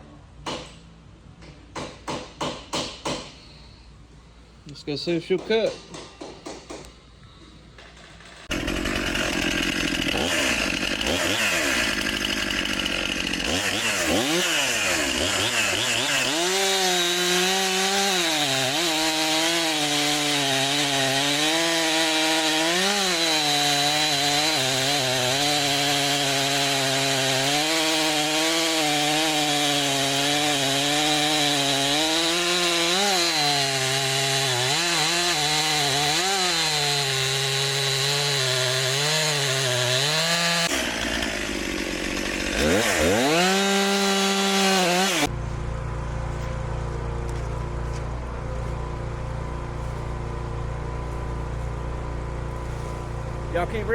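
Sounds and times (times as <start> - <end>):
chainsaw cutting wood: 8.2 - 53.9.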